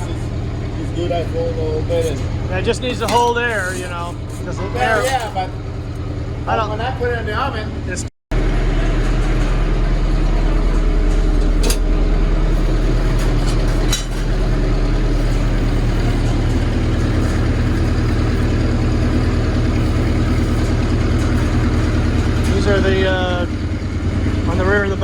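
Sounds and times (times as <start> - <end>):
machine humming: 0.0 - 25.0.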